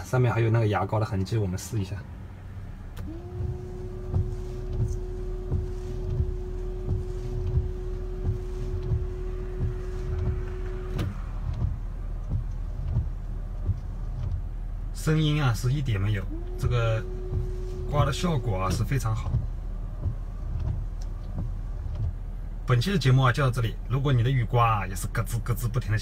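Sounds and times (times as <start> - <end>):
wiper motor whine: 2.1 - 26.0
wiper blades knocking softly: 2.2 - 26.0.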